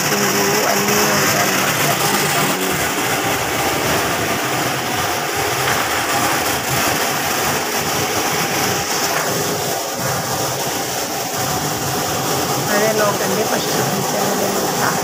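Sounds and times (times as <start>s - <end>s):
machinery running loudly: 0.0s - 15.0s.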